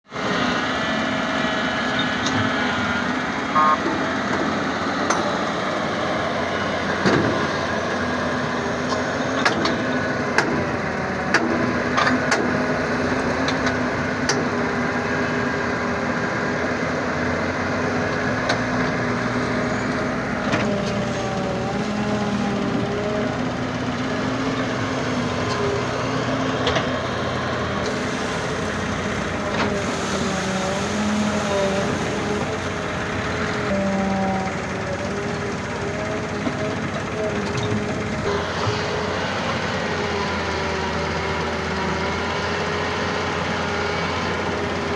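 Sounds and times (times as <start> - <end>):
heavy machine engine running: 0.1 - 44.9.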